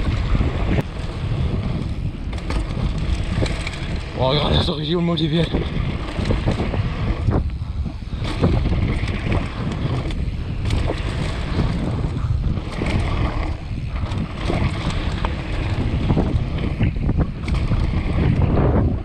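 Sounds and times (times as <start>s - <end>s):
bike rattling and knocking: 0.0s - 19.0s
wind rumble on microphone: 0.0s - 19.0s.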